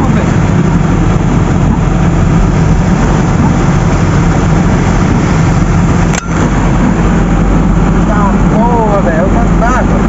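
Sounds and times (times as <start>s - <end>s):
diesel truck engine running: 0.0s - 10.0s
rain hissing: 0.0s - 10.0s.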